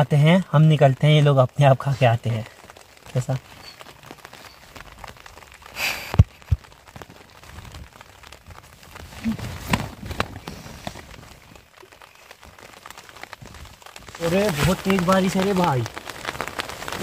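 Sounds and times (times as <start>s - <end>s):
rain pattering on tent fabric: 0.0s - 17.0s
clothes rustling: 1.9s - 17.0s.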